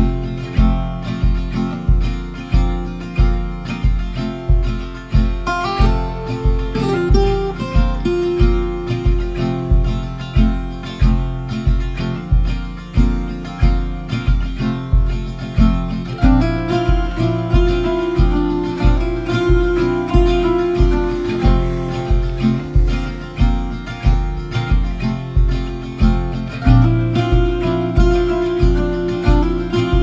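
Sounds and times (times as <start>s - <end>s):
steady beat: 0.0s - 30.0s
strummed acoustic guitar: 0.0s - 30.0s.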